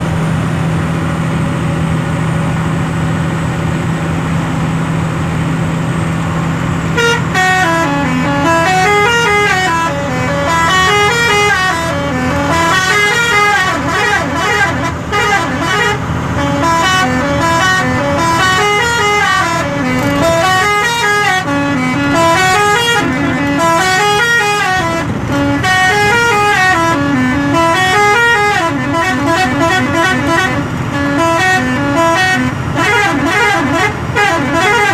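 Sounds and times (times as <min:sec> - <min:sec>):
truck engine running: 0:00.0 - 0:34.9
musical truck horn tune: 0:05.2 - 0:34.9.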